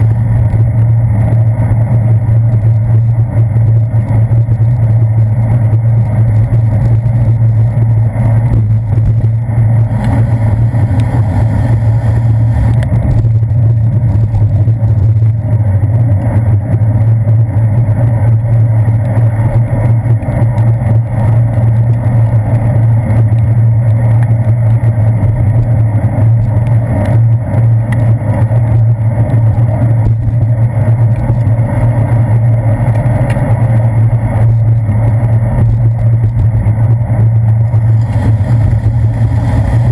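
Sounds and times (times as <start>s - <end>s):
bicycle road vibration on wet pavement: 0.0s - 39.9s
wind rumble: 0.0s - 39.9s.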